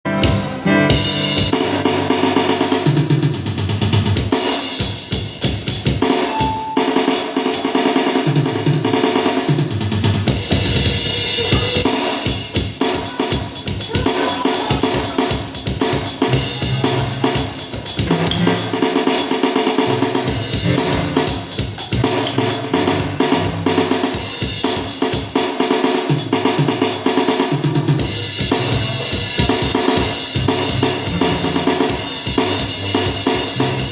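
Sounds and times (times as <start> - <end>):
acoustic drum kit groove: 0.2 - 33.9.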